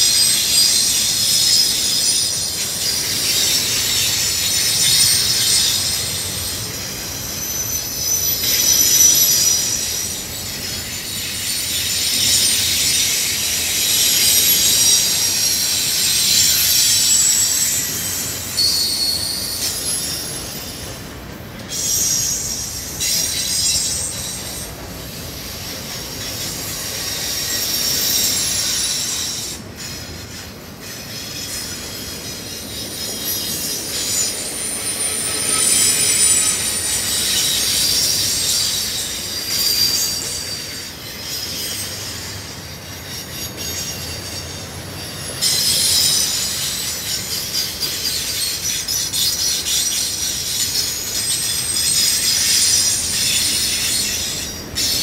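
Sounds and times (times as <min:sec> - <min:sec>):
high-pitched wheel squeal: 0:00.0 - 0:55.0
train wheels rumbling on rails: 0:00.0 - 0:55.0.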